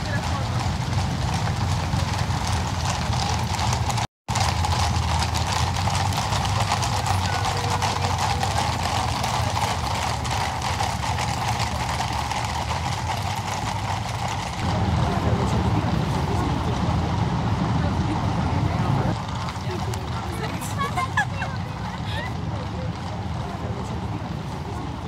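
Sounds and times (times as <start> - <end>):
horse hooves on cobbles: 0.0 - 25.0.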